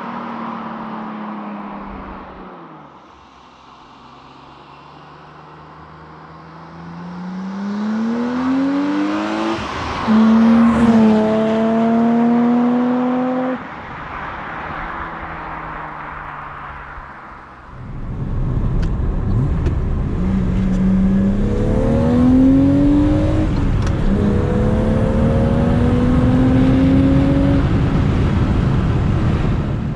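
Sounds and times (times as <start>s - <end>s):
car engine accelerating: 4.2s - 13.7s, 15.2s - 29.9s.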